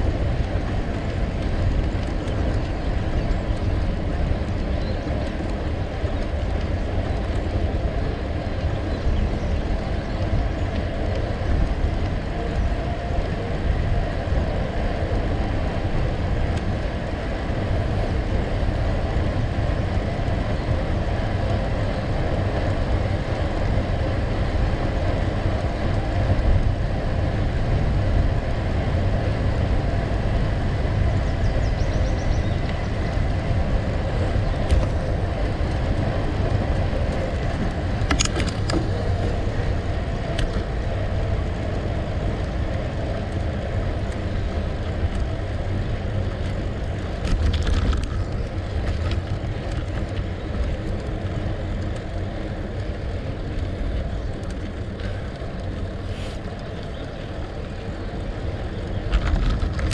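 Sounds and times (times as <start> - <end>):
bike tyres rolling on gravel: 0.0 - 59.9.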